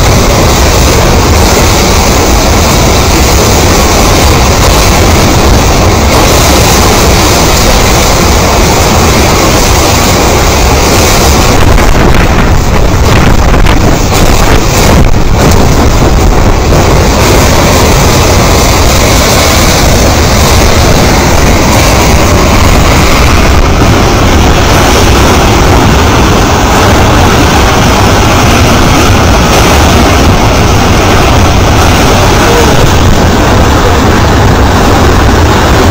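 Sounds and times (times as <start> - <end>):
debris flow rumbling: 0.0 - 35.9.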